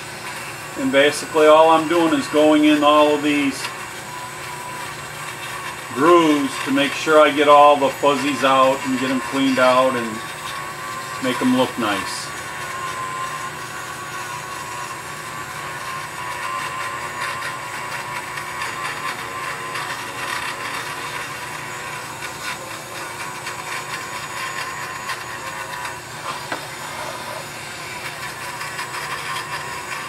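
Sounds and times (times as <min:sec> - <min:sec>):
rotary tool whining on wood: 0:00.0 - 0:30.0.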